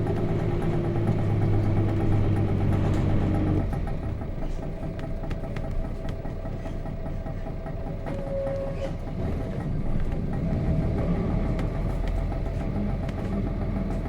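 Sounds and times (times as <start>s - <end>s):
diesel bus engine: 0.0s - 14.0s
body rattles and clicks: 1.7s - 10.7s, 11.4s - 14.0s.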